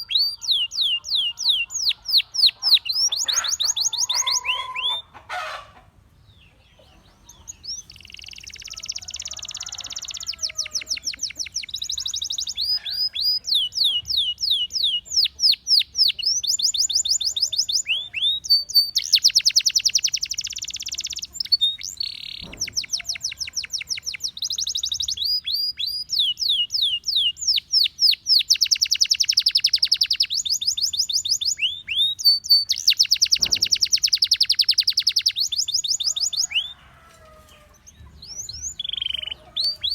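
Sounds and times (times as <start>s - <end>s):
canary singing trills: 0.0s - 5.6s, 6.2s - 39.9s.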